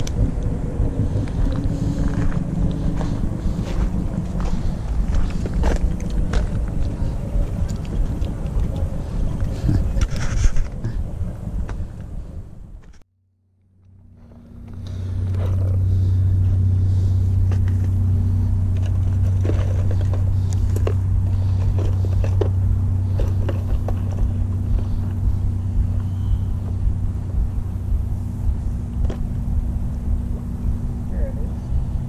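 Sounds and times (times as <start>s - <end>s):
low mechanical drone: 0.0s - 32.0s.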